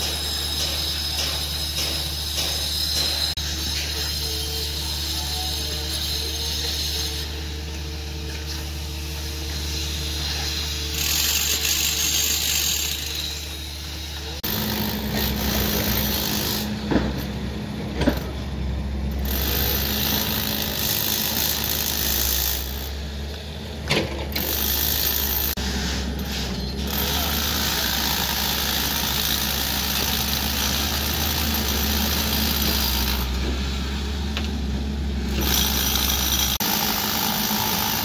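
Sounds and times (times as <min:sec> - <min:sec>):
construction machinery humming: 0:00.0 - 0:38.0.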